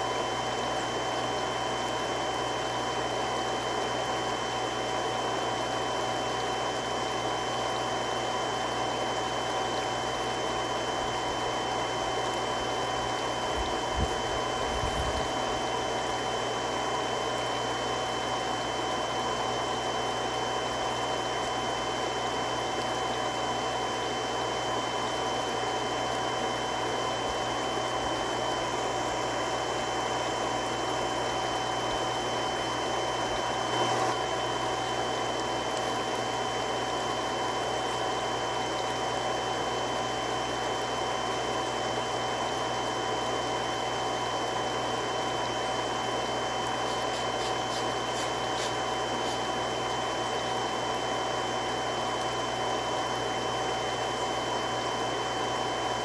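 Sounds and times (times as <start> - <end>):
water pump running: 0.0 - 56.0.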